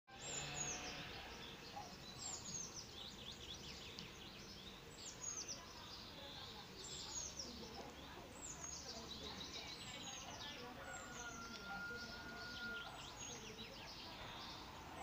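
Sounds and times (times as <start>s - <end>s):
songbirds chirping: 0.1s - 15.0s.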